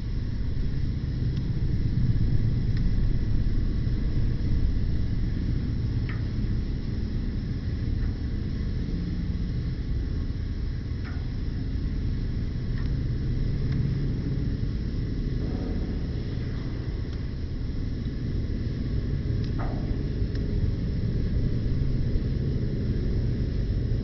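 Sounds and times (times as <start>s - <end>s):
campfire burning: 0.0s - 24.0s
fire crackles: 0.0s - 24.0s.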